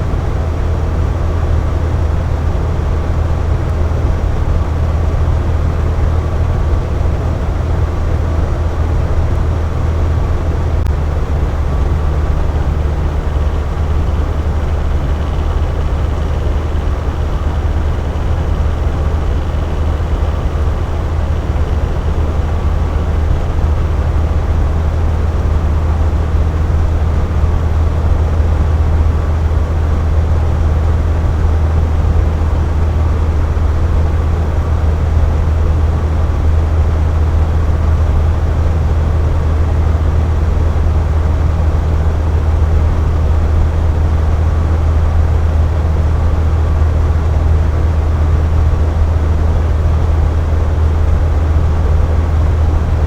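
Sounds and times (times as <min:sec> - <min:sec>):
box fan running: 0:00.0 - 0:53.0.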